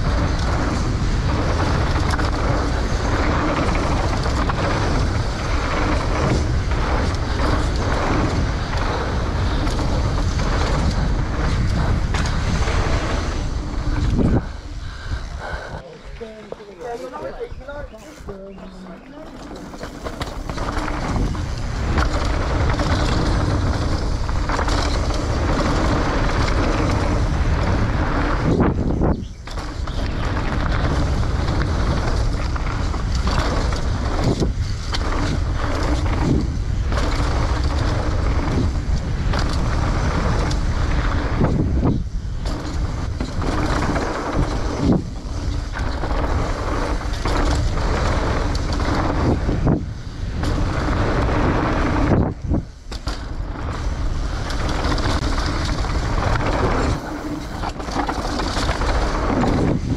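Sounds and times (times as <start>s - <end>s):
bike rattling over ground: 0.0s - 59.9s
bike tyre roar: 0.0s - 59.9s
wind rush on microphone: 0.0s - 59.9s.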